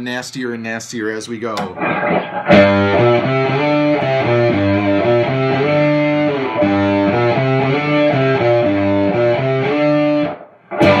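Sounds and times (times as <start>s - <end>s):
fuzz electric guitar chords: 1.6s - 11.0s.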